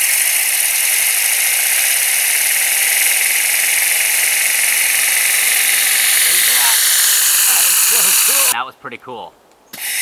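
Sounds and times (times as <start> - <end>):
air turbine whining: 0.0 - 8.6.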